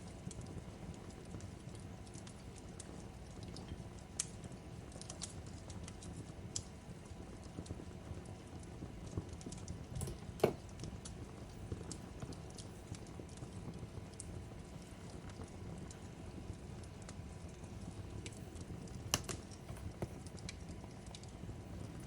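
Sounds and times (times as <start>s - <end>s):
fireplace crackling and popping: 0.0s - 22.0s.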